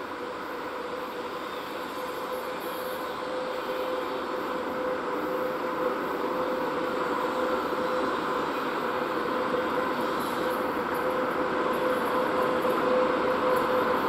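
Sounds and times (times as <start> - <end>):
electric locomotive running: 0.0 - 14.0.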